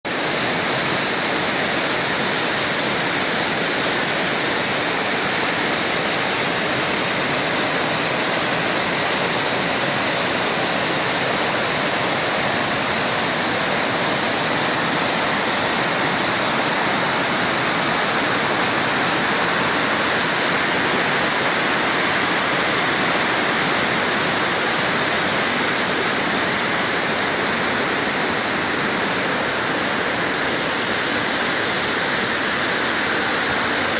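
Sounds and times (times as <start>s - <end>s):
waterfall rushing and splashing: 0.1s - 33.9s.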